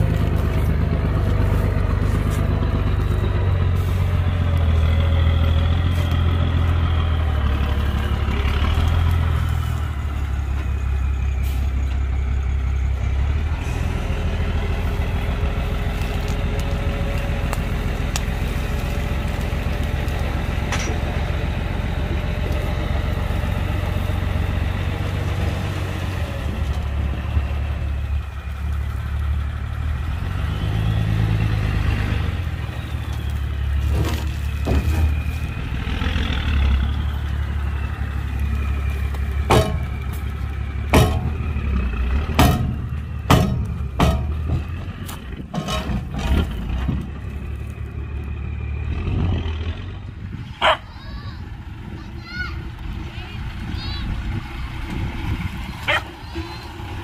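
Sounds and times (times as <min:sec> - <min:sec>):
heavy diesel machinery engine drone: 0:00.0 - 0:57.0.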